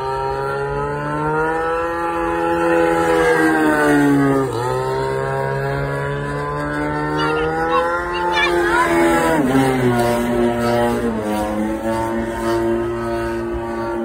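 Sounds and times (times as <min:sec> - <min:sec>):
model airplane motor whine: 0:01.6 - 0:14.0.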